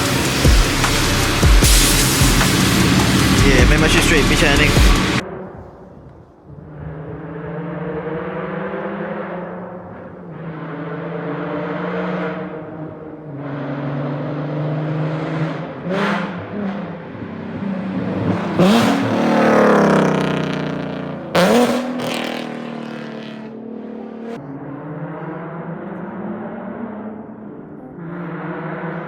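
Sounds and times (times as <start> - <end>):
car engine revving: 0.0 - 5.8, 6.5 - 29.0.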